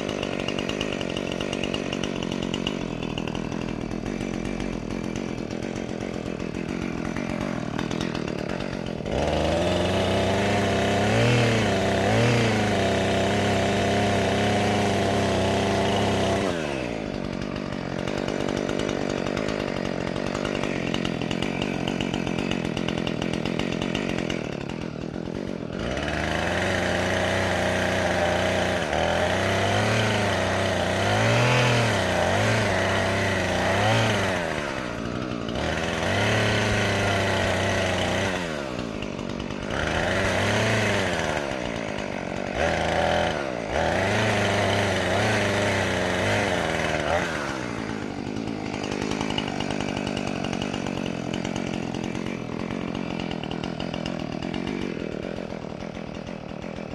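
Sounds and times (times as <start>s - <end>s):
chainsaw idling and revving: 0.0s - 56.9s.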